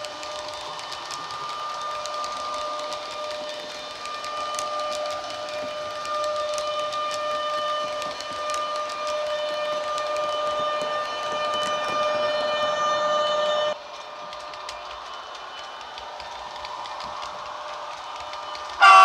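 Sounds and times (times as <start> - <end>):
model train high-pitched whine: 0.0 - 19.0
wheels clicking on track: 0.0 - 19.0.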